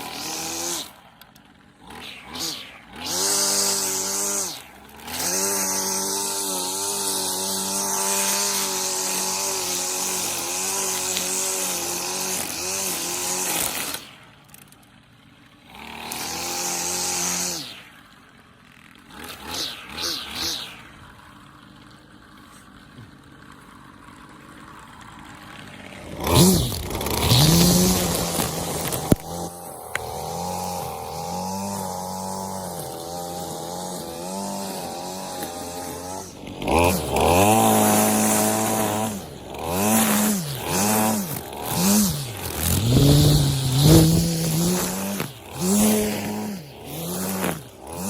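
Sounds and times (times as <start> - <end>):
string trimmer engine revving: 0.0 - 48.0.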